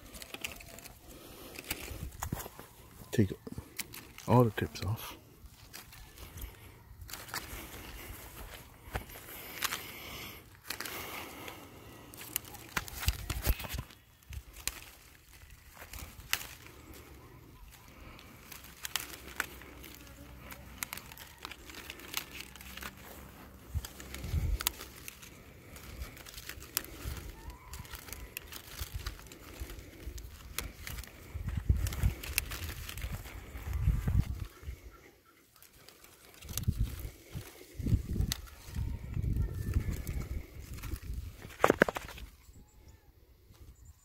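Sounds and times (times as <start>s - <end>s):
leaves rustling: 0.0s - 43.9s.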